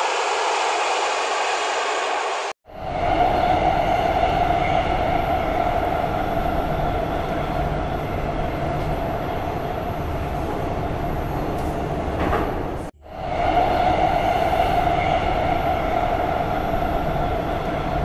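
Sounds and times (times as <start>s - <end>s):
jet engine roar and whine: 0.0s - 18.0s.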